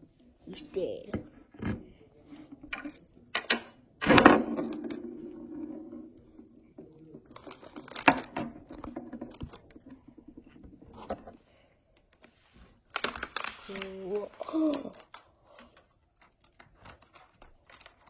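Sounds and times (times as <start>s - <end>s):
plastic toys clicking and knocking: 1.1s - 11.3s, 12.9s - 18.0s.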